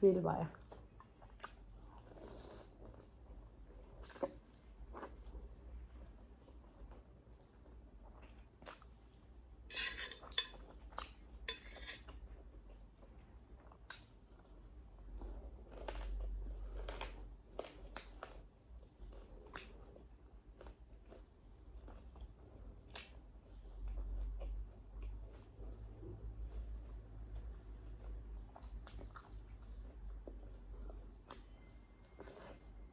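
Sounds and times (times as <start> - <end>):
person chewing food: 0.6 - 32.9.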